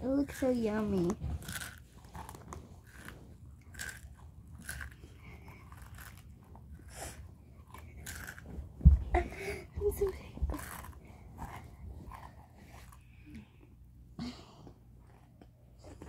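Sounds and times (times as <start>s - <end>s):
child chewing crunchy chips: 0.0s - 8.8s, 10.0s - 13.6s, 15.0s - 16.0s.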